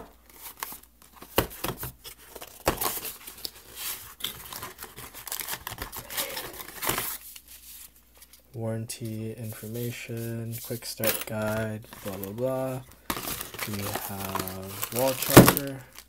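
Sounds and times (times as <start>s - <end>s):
cardboard packaging being handled: 0.0s - 8.4s, 9.0s - 16.0s.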